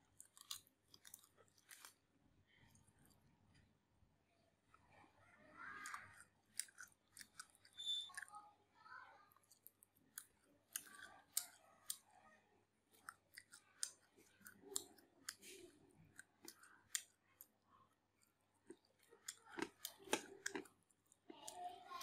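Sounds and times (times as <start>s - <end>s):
wet chewing with crunches: 0.0s - 3.7s, 4.7s - 8.5s, 9.2s - 22.0s.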